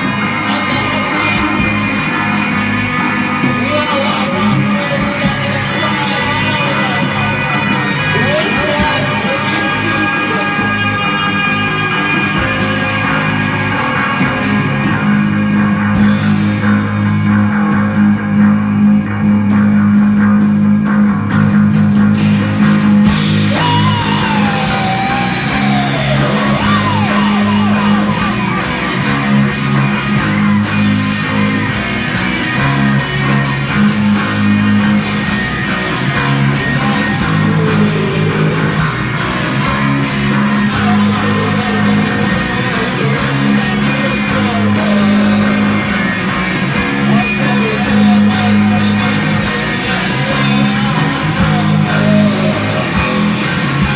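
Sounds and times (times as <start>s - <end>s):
bass guitar: 0.0s - 53.9s
drum kit: 0.0s - 53.9s
electric guitar: 0.0s - 53.9s
high bending guitar line: 0.0s - 53.9s.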